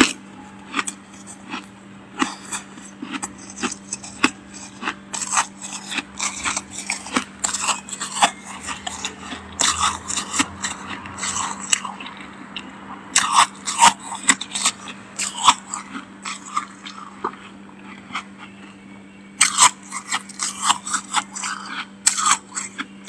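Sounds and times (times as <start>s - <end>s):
faint steady hum: 0.0s - 23.0s
freezer frost crunching: 0.0s - 23.0s.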